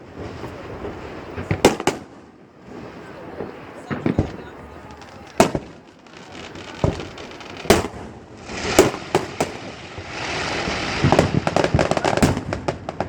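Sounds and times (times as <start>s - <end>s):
firework bangs: 0.0s - 13.0s
firework crackling pops: 0.0s - 13.0s.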